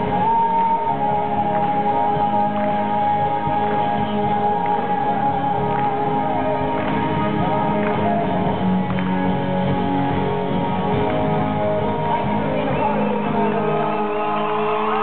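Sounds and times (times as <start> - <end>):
guitars: 0.0 - 15.0.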